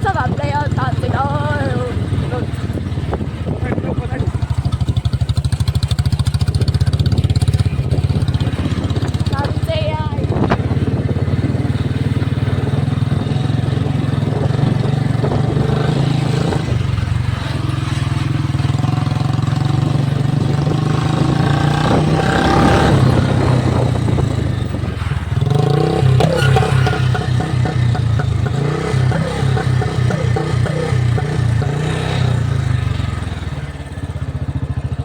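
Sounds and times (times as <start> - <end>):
motorcycle engine running under load: 0.0 - 35.0.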